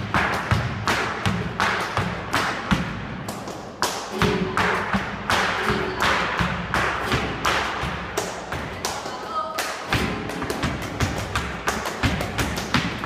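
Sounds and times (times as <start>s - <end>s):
shoes stamping on stage floor: 0.0s - 9.2s, 9.8s - 13.0s
sharp handclaps: 0.0s - 13.0s.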